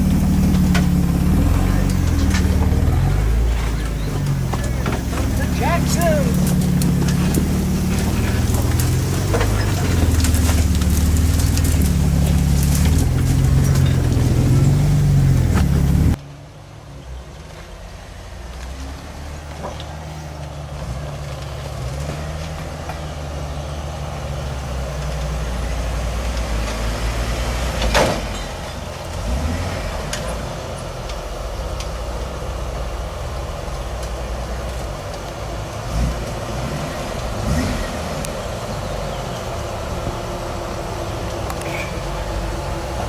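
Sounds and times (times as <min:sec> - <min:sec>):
truck engine under load: 0:00.0 - 0:43.0.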